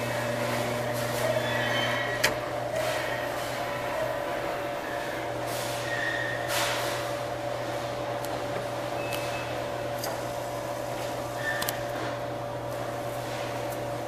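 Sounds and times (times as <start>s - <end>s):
claw machine electrical hum: 0.0s - 14.0s.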